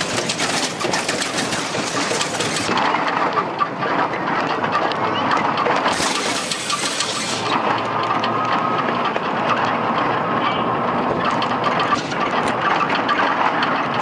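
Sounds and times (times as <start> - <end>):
vehicle engine and road noise: 0.0 - 14.0
vehicle rattles and knocks: 0.0 - 14.0.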